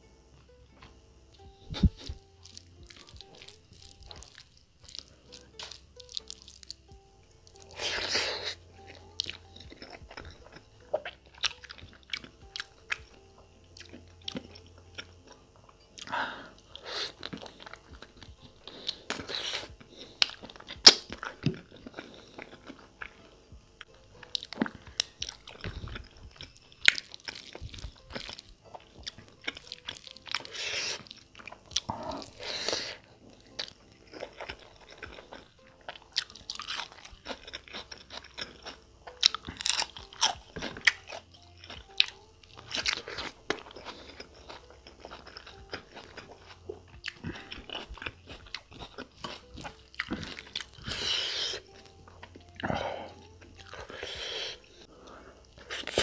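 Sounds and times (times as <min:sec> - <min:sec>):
chewing and crunching bone: 0:01.7 - 0:56.0.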